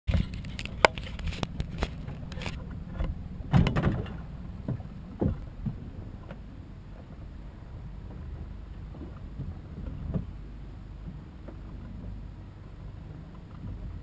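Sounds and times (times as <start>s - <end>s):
knocks and thumps on a boat: 0.1s - 14.0s
low steady rumble: 0.1s - 14.0s.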